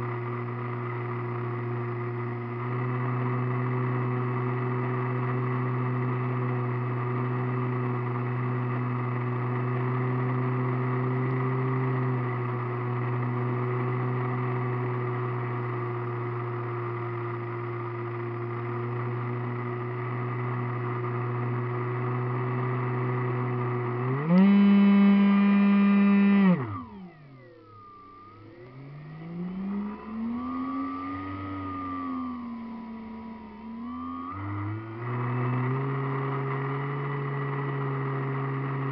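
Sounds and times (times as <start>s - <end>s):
faint wavering drone: 0.0s - 38.9s
model airplane motor and propeller: 0.0s - 38.9s.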